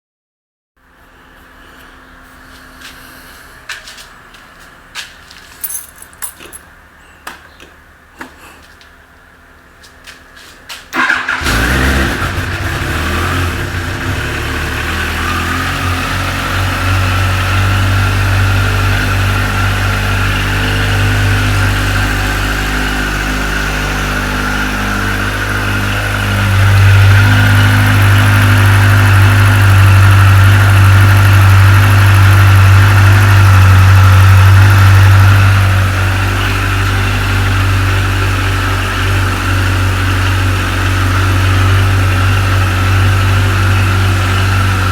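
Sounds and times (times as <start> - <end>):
motorcycle engine starting and idling: 0.9 - 44.9.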